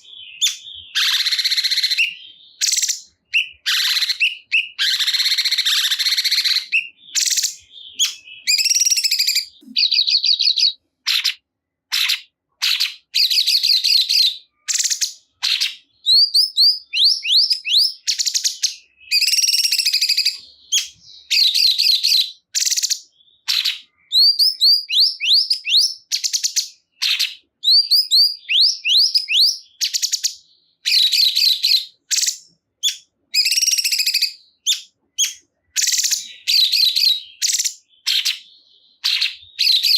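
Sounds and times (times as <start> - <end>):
songbird chirping and whistling: 0.0 - 39.9.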